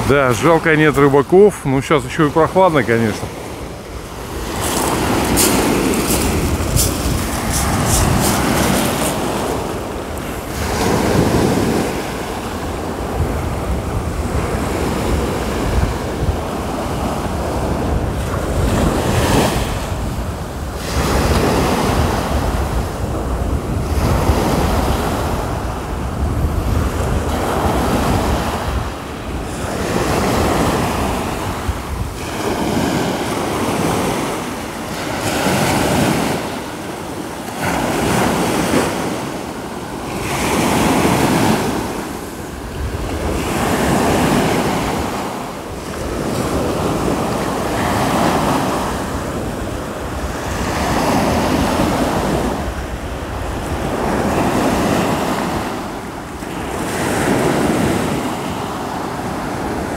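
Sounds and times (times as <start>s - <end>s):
surf breaking on a beach: 0.0s - 59.9s
wind buffeting microphone: 3.0s - 59.9s.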